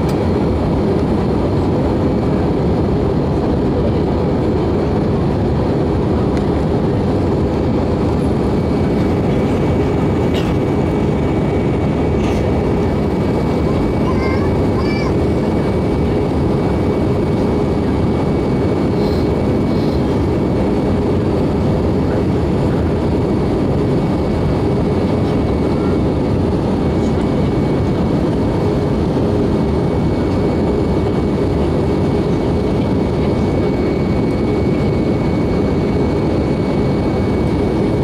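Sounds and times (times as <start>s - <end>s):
jet engine cabin rumble: 0.0s - 38.0s.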